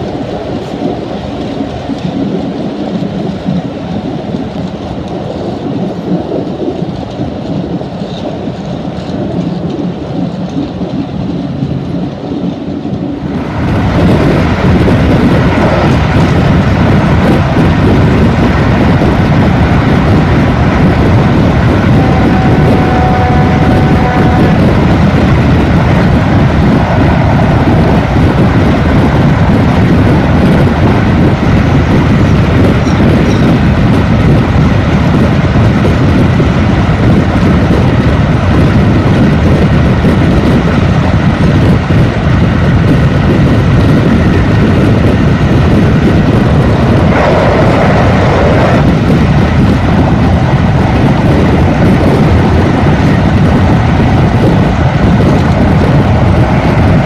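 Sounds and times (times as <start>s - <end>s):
train rushing at speed: 0.0s - 57.0s.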